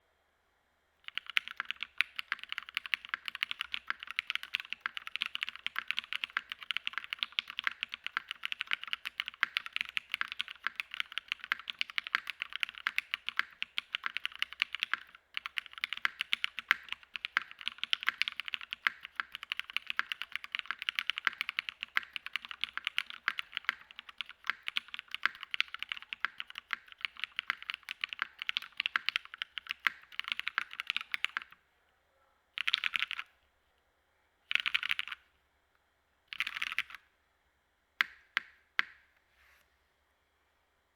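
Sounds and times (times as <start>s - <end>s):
mechanical keyboard typing: 1.0s - 31.6s, 32.6s - 33.3s, 34.5s - 35.2s, 36.3s - 37.0s.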